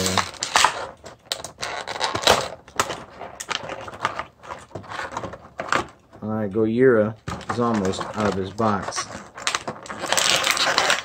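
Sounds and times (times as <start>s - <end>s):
plastic packaging crackling: 0.0s - 6.2s, 7.1s - 11.0s.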